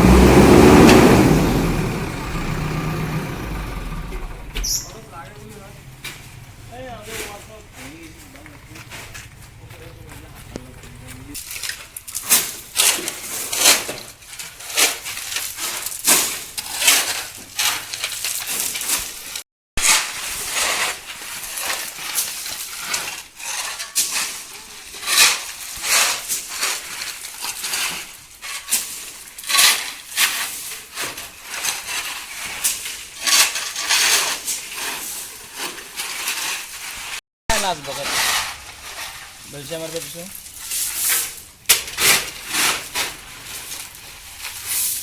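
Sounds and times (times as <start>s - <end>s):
gravel clattering: 0.0s - 45.0s.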